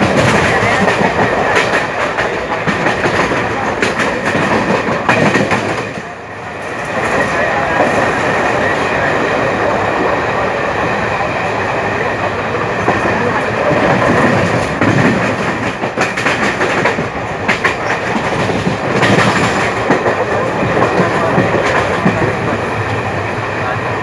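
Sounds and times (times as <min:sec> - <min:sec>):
train wheels on track: 0:00.0 - 0:24.0.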